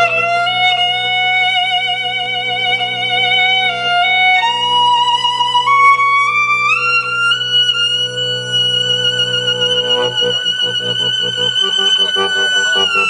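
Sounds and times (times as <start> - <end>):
sustained accordion chord: 0.0 - 13.0
violin melody with vibrato: 0.0 - 13.0.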